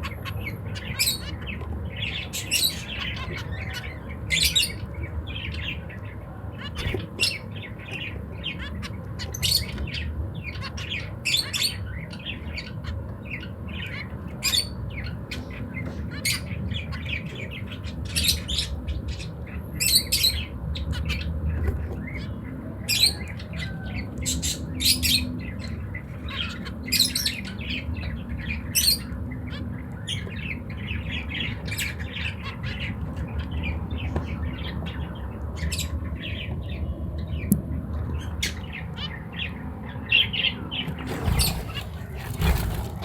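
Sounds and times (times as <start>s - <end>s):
finches calling: 0.0s - 37.4s.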